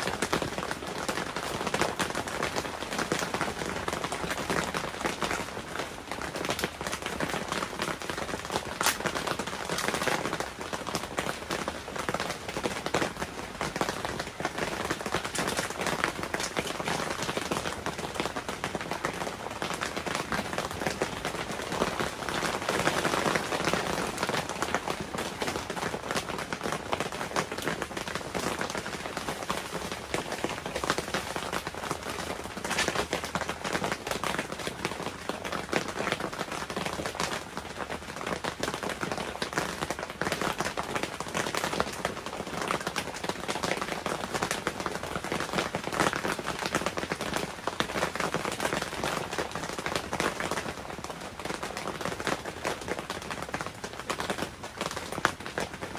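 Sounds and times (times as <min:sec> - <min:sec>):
rain falling on a tent: 0:00.0 - 0:55.9.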